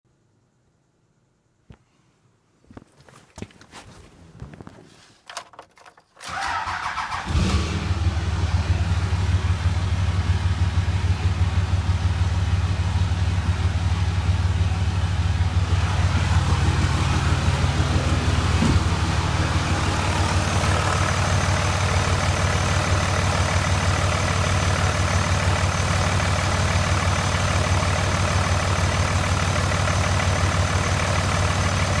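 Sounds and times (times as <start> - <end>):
diesel engine idling: 6.3 - 32.0.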